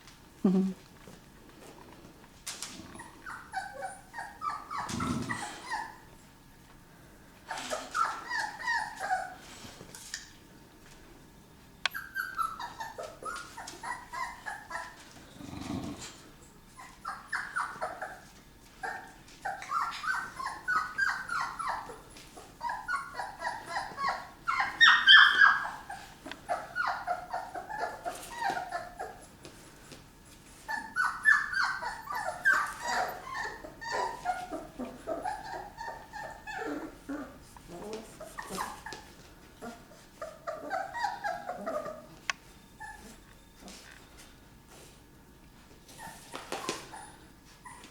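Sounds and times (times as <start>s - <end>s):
puppies whimpering and squealing: 2.8s - 6.1s, 7.4s - 9.7s, 11.9s - 29.5s, 30.5s - 44.4s, 45.9s - 47.9s.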